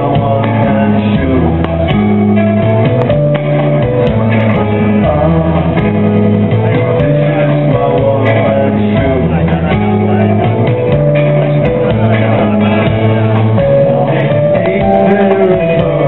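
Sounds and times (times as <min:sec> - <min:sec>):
guitar: 0:00.0 - 0:16.0
rock music: 0:00.0 - 0:16.0
steady bass line: 0:00.0 - 0:16.0.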